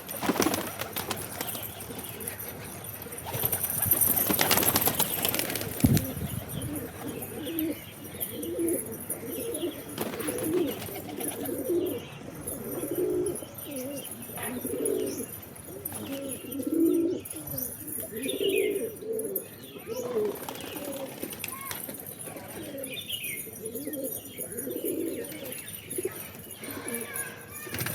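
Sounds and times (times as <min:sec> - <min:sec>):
pigeons cooing: 0:00.0 - 0:27.9.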